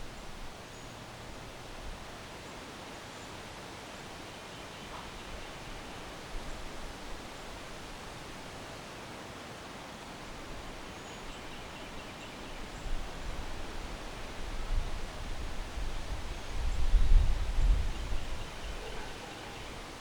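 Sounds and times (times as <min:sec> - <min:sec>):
wind rustling trees: 0:00.0 - 0:20.0.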